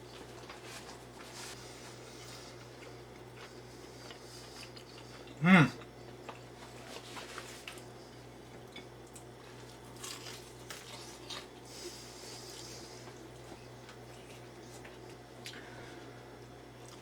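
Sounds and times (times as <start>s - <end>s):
person chewing food: 0.1s - 7.8s, 8.6s - 15.6s.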